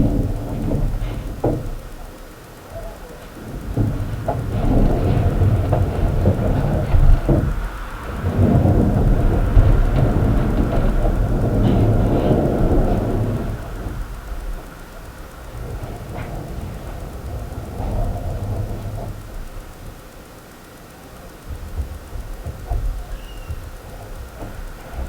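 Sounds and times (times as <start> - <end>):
low rumble through ceiling: 0.0 - 25.0.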